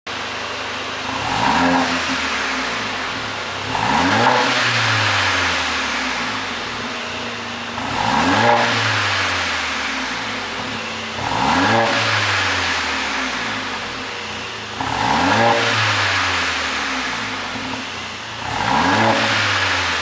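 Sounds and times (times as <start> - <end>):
car engine revving: 1.0 - 20.0.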